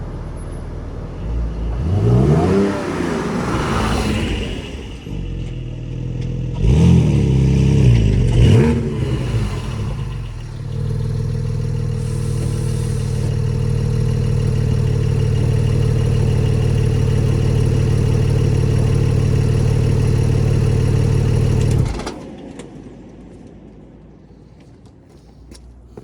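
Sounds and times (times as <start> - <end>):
car engine running: 0.8 - 22.2, 24.3 - 26.0.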